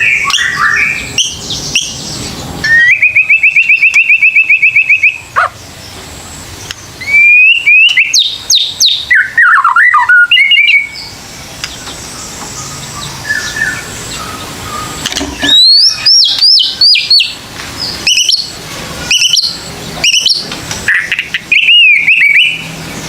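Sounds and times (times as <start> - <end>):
bird singing whistled phrases: 0.0 - 5.5, 7.0 - 11.2, 12.1 - 22.8.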